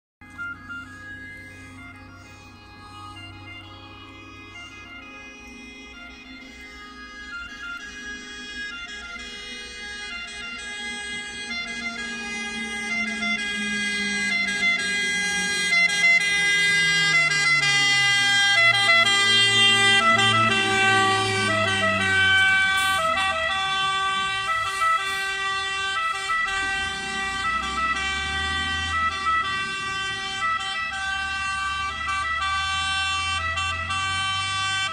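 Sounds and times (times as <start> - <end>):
diesel truck engine passing: 0.2 - 34.9
fire engine siren: 0.2 - 34.9.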